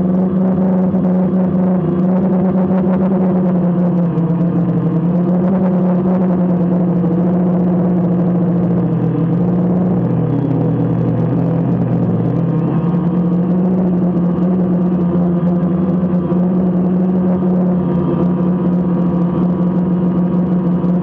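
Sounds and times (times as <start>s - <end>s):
drone propellers humming: 0.0s - 21.0s.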